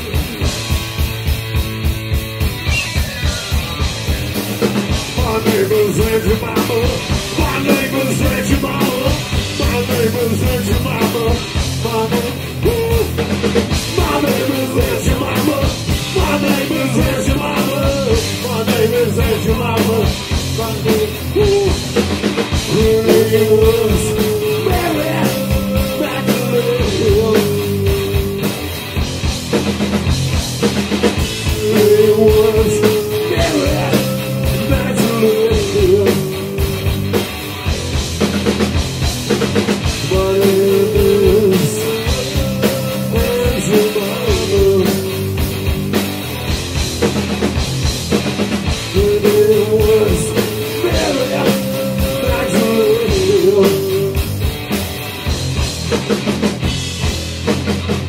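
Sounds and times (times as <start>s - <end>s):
punk rock music: 0.0s - 58.0s.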